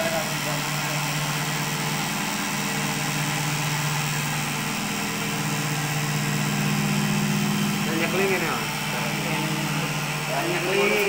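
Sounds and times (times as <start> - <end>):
cotton candy machine motor hum: 0.0 - 11.0.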